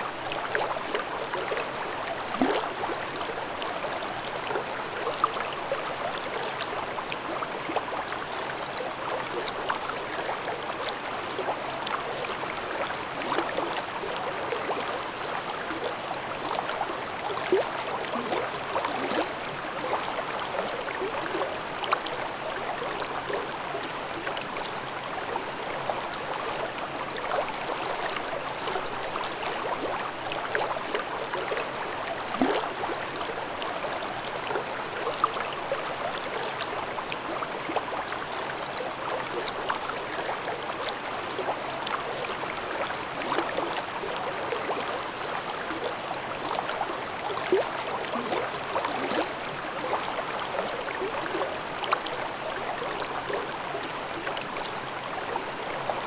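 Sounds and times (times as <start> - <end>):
stream splashing over stones: 0.1 - 56.0.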